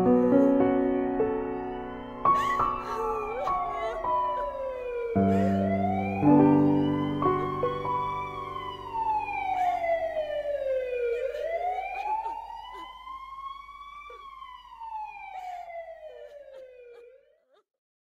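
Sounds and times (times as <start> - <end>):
emergency vehicle siren wailing: 1.2 - 17.4.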